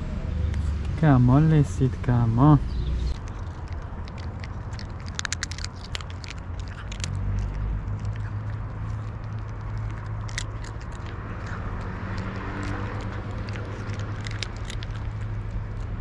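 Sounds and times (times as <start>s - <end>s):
cats crunching dry kibble: 3.0s - 16.0s.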